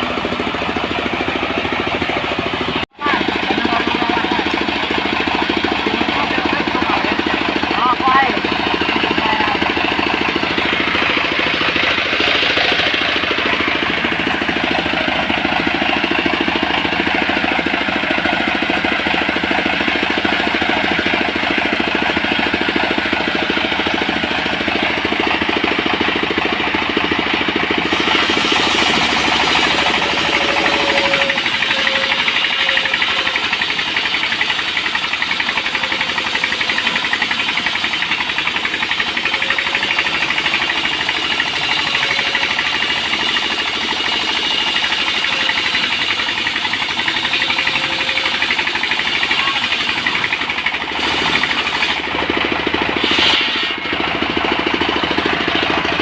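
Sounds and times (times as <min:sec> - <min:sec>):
portable sawmill running: 0:00.0 - 0:56.0.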